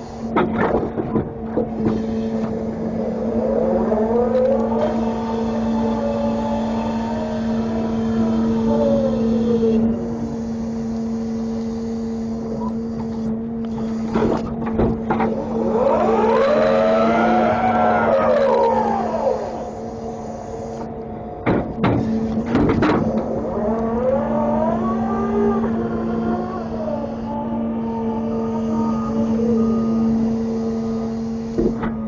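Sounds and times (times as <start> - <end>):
truck engine revving: 1.7 - 31.7.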